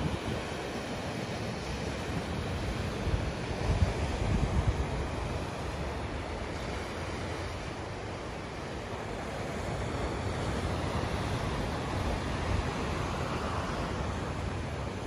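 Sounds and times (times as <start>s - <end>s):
ocean surf breaking on rocks: 0.0s - 15.0s
wind buffeting the microphone: 0.0s - 15.0s.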